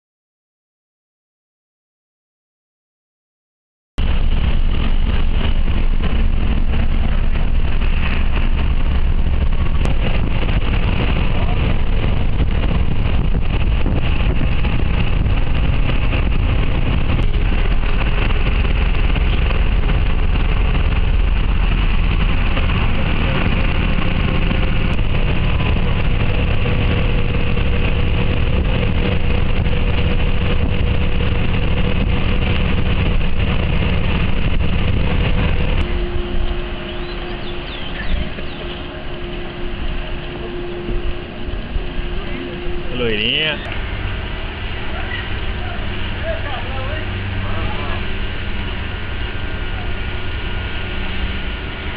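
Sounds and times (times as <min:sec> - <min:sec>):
bus engine and road rumble: 0:04.0 - 0:51.9.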